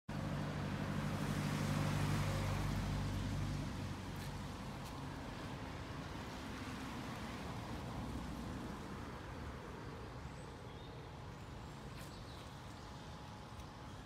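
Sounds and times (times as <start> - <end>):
steady outdoor noise: 0.1 - 14.0
vehicle engine humming: 0.1 - 14.0.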